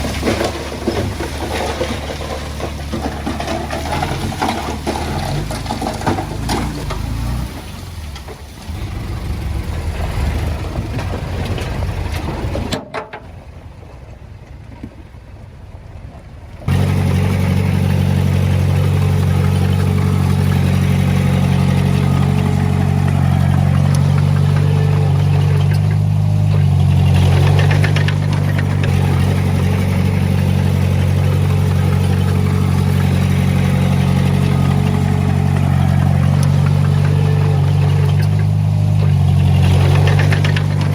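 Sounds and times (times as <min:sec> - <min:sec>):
low engine drone: 0:00.0 - 0:12.8, 0:13.4 - 0:40.9
diesel engine clattering: 0:00.0 - 0:40.9.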